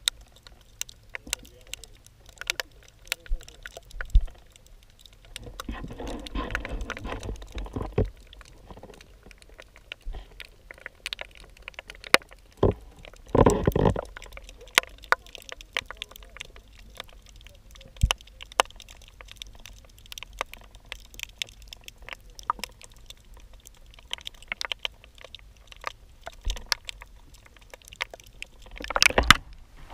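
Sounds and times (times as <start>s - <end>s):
underwater clicks and knocks: 0.0s - 29.9s.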